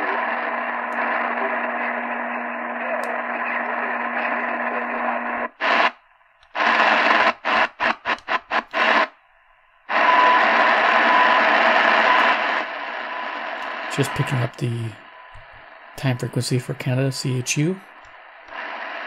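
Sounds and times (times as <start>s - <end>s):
shortwave radio static hiss: 0.0s - 9.2s, 9.8s - 19.0s.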